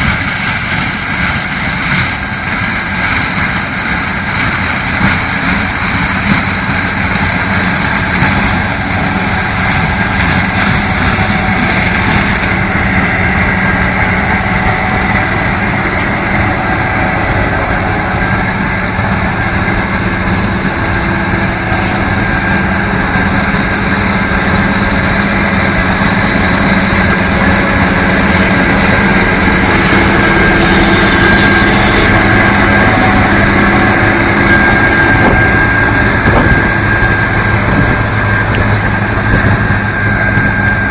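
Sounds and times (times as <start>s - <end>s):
combine harvester engine drone: 0.0s - 40.9s
high whine: 0.0s - 40.9s.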